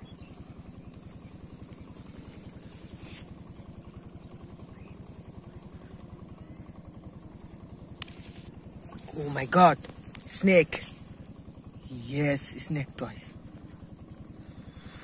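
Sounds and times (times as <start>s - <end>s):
high-pitched whine: 0.0s - 15.0s
small engine running: 0.0s - 15.0s.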